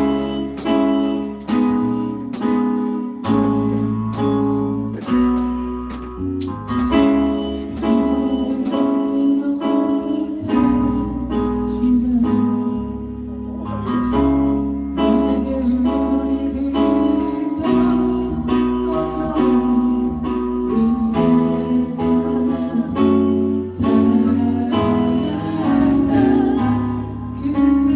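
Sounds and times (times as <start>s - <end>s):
band playing rock ballad: 0.0s - 27.9s
bass line: 0.0s - 27.9s.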